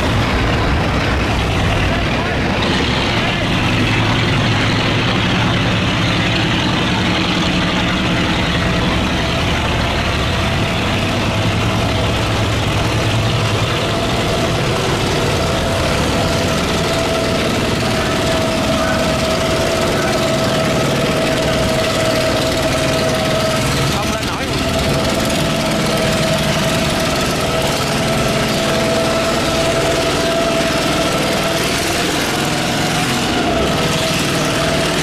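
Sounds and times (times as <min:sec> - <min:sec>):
boat engines running: 0:00.0 - 0:35.0.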